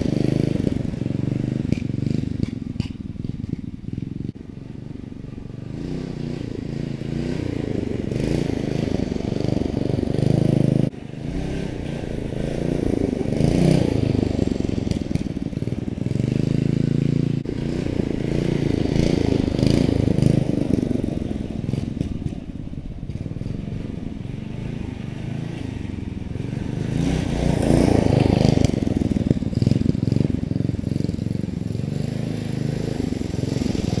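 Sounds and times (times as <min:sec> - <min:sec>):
mini bike engine revving: 0:00.0 - 0:04.4, 0:05.3 - 0:34.0.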